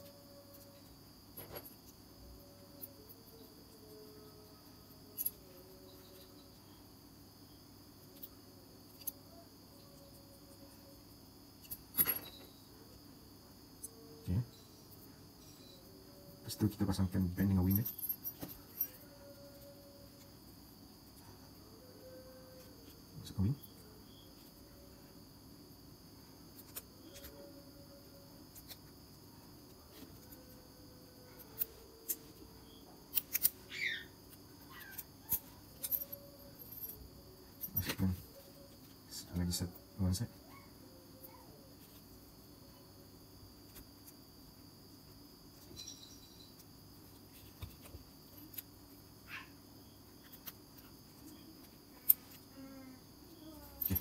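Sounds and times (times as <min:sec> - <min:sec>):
faint hum: 0:00.0 - 0:54.0.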